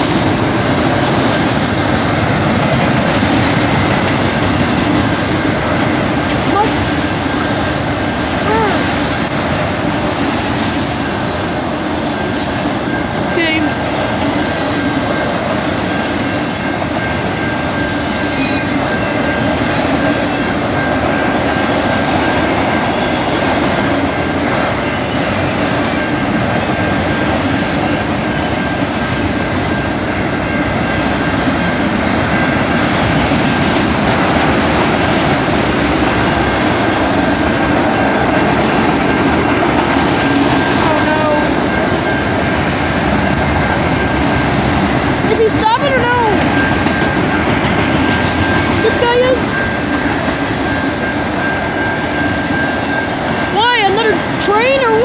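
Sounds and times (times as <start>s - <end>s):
steady high tone: 0.0s - 55.0s
train wheels rumbling on rail: 0.0s - 55.0s.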